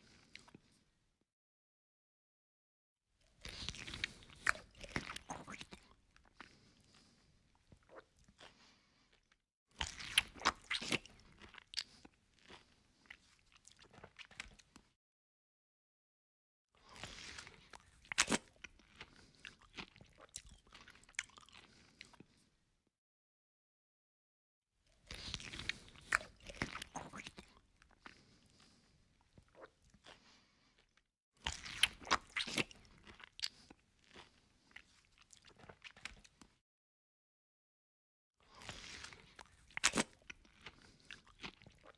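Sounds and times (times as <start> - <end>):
crunchy chewing of fried food: 0.0 - 0.9, 3.2 - 15.0, 16.8 - 22.6, 24.9 - 36.6, 38.4 - 41.9.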